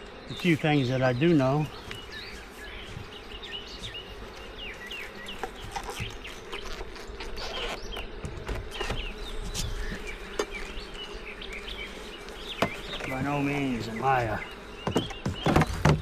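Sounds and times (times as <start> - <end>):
birds chirping: 0.0 - 16.0
honeybees buzzing: 0.0 - 16.0.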